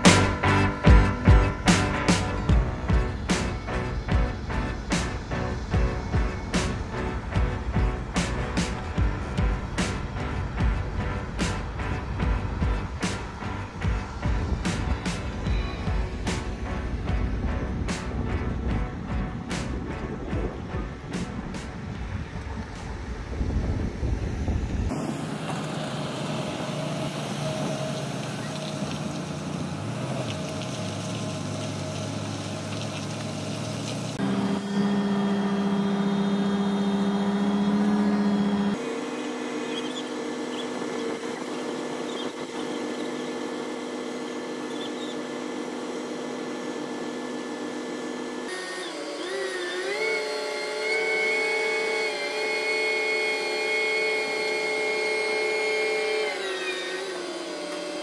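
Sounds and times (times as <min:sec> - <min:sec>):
crane diesel engine running: 0:00.0 - 0:58.0
deep loud hydraulic drone: 0:00.0 - 0:58.0.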